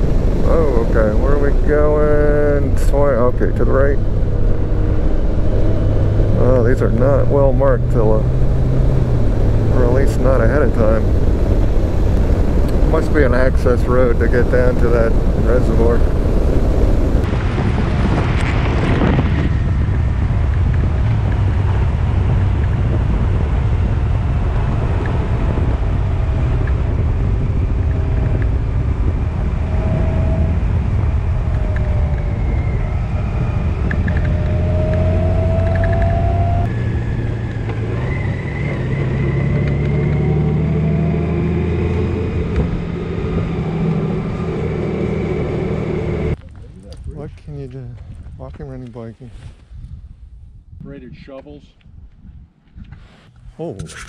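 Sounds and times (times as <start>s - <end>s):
vehicle engine: 0.0s - 47.0s
road rumble: 0.0s - 54.0s.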